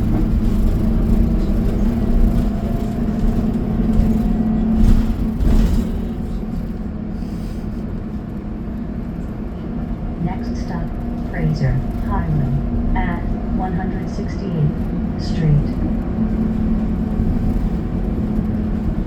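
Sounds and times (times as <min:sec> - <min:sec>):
bus engine drone: 0:00.0 - 0:19.0
road rumble: 0:00.0 - 0:19.0.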